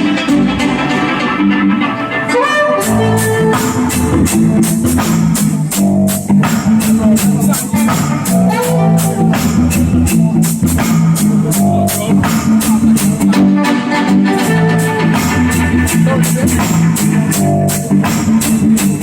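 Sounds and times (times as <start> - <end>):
loud music with drums bass and guitar: 0.0 - 19.0.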